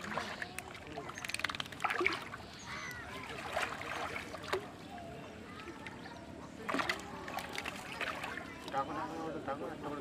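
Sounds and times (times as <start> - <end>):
pond water splashing: 0.0 - 9.1
faint distant voices: 0.0 - 10.0.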